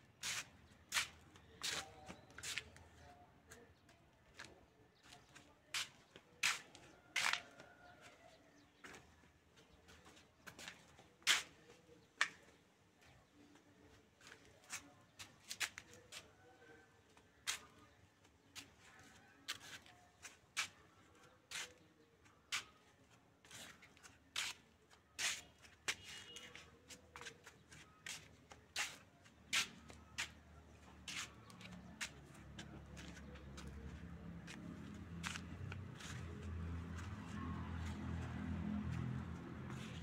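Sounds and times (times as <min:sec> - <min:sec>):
footsteps on concrete: 0:00.2 - 0:12.6, 0:17.2 - 0:40.0.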